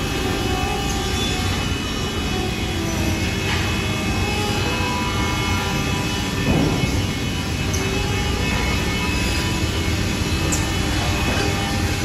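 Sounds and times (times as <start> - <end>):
woodworking machinery drone: 0.0 - 12.0.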